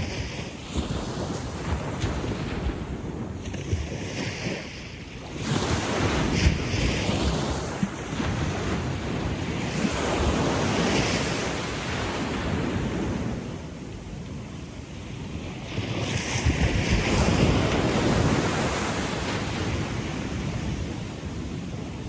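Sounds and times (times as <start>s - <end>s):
sea waves washing up a beach: 0.0s - 22.0s
wind rumbling on microphone: 0.0s - 22.0s.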